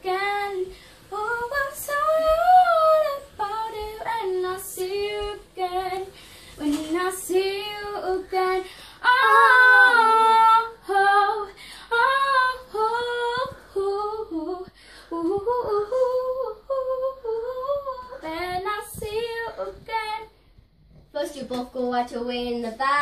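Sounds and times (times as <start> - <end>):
girl singing: 0.0 - 20.4.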